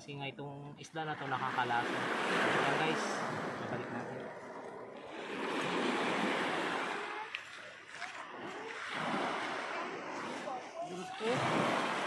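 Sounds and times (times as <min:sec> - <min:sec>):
small waves washing onto shore: 0:00.8 - 0:12.0.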